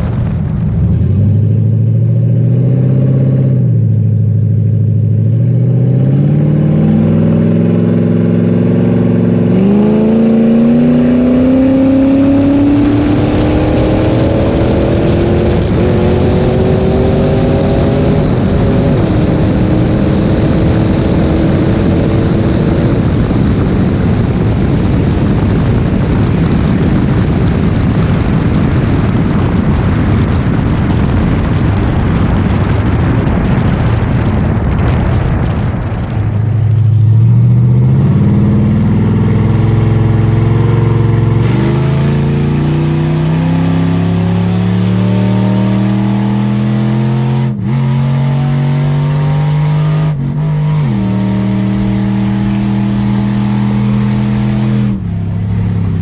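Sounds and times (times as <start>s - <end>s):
car engine revving up: 0.0s - 56.0s
rushing wind noise: 0.0s - 56.0s.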